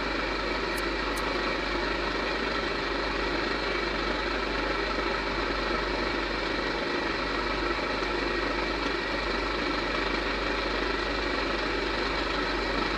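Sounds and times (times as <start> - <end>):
steady mechanical drone: 0.0 - 12.9.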